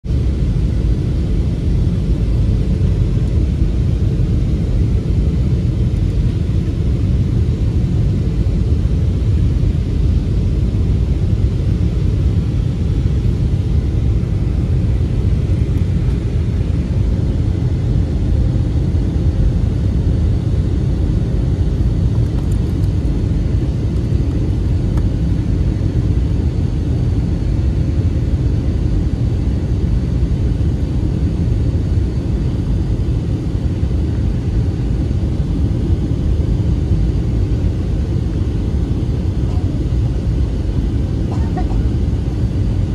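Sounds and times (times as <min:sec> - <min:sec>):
airliner cabin engine rumble: 0:00.1 - 0:42.9.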